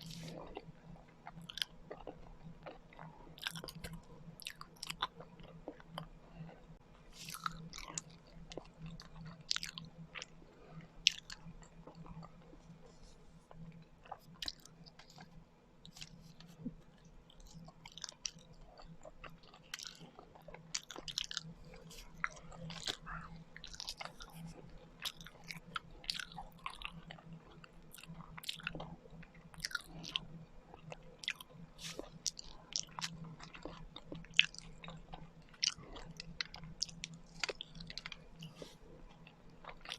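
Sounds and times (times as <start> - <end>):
faint low hum: 0.0 - 39.9
person chewing food: 0.0 - 39.9.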